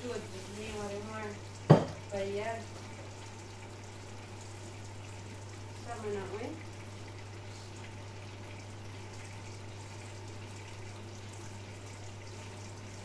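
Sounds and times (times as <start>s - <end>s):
food simmering and bubbling: 0.0s - 13.0s.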